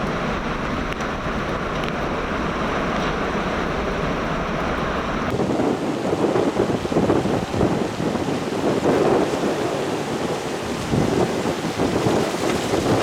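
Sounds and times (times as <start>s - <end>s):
driving rain: 0.0s - 13.0s
strong wind: 0.0s - 13.0s.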